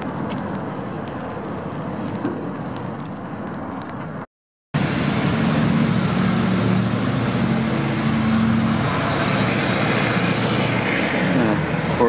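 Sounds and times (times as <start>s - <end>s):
constant traffic hiss: 0.0s - 12.0s
vehicle engine hum: 0.0s - 12.0s.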